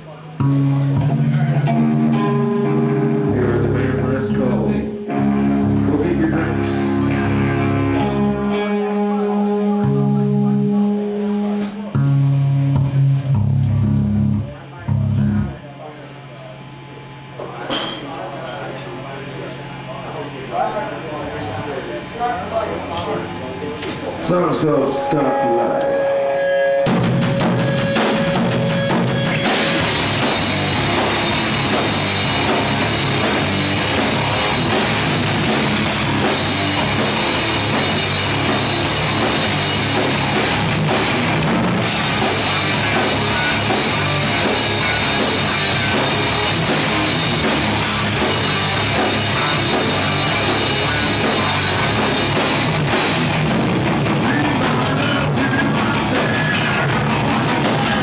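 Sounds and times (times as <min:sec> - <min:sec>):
drum kit: 0:00.0 - 0:15.6, 0:24.9 - 0:58.0
electric guitars: 0:00.0 - 0:15.6, 0:22.8 - 0:58.0
bass guitar: 0:00.0 - 0:15.7, 0:23.9 - 0:58.0.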